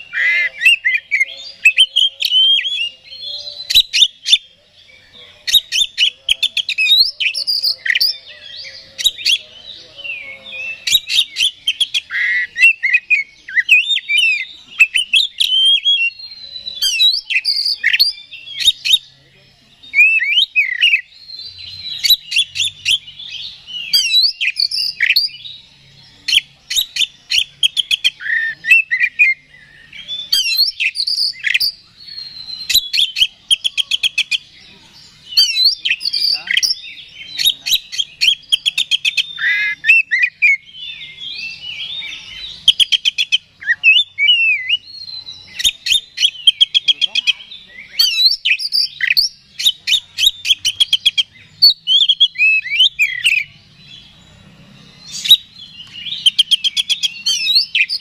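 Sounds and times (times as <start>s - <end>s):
bird whistling and trilling: 0.0s - 4.5s, 5.4s - 9.5s, 10.1s - 19.2s, 19.8s - 34.6s, 35.2s - 54.1s, 55.0s - 58.0s.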